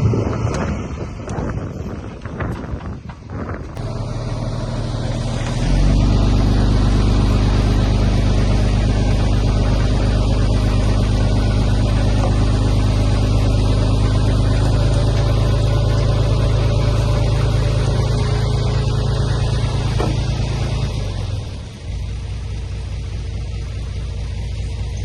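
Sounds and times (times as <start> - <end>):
heavy diesel engine under load: 0.0 - 25.0.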